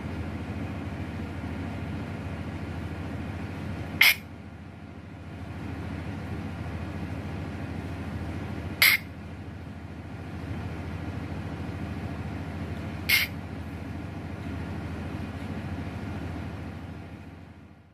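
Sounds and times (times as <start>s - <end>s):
low engine rumble: 0.0s - 17.9s.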